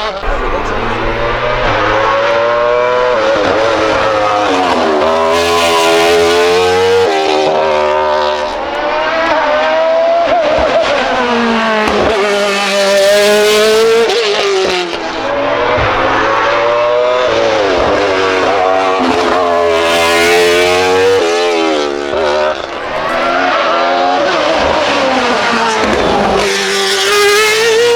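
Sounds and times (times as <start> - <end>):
race car engine revving: 0.0 - 27.9.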